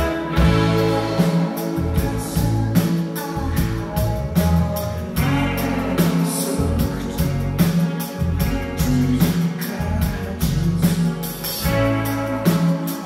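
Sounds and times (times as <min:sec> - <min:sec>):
drum kit hitting: 0:00.0 - 0:13.0
rock band playing: 0:00.0 - 0:13.0.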